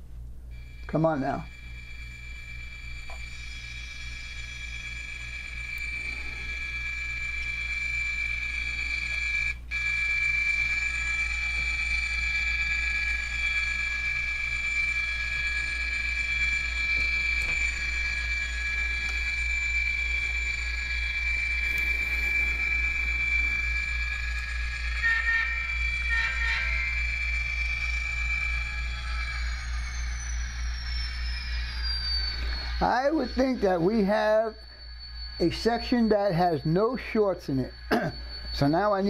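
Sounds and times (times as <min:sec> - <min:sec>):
high-pitched whining tones: 0:00.5 - 0:39.0
model train motor hum: 0:00.6 - 0:37.2.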